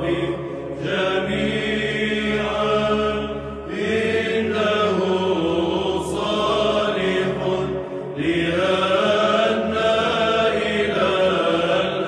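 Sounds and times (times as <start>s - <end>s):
low vocal drone: 0.0s - 12.0s.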